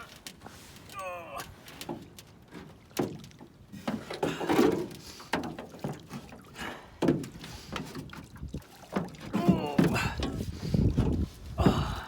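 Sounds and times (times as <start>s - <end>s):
water splashing around canoe: 0.0s - 12.0s.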